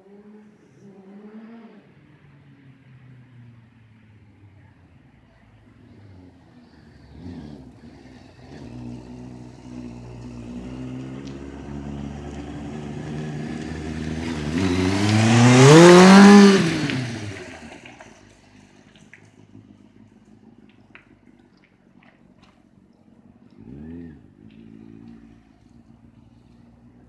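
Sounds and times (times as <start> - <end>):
motorcycle engine revving past: 0.0 - 3.5, 5.7 - 20.6, 23.4 - 27.0.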